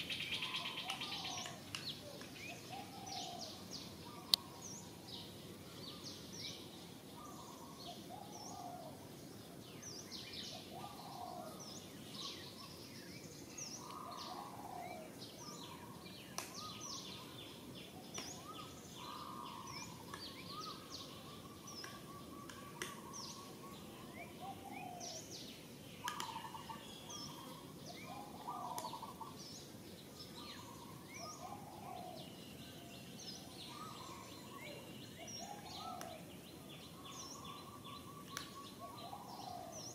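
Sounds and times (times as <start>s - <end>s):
birds chirping: 0.0s - 39.9s
steady background hiss: 0.0s - 39.9s.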